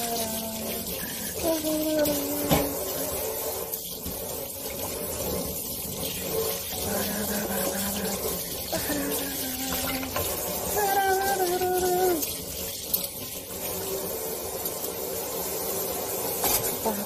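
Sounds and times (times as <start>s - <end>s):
faucet spraying into sink: 0.0s - 17.0s.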